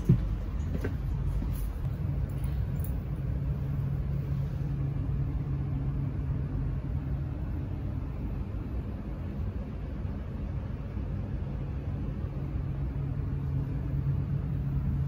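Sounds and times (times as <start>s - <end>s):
train equipment hum and rumble: 0.0s - 15.0s.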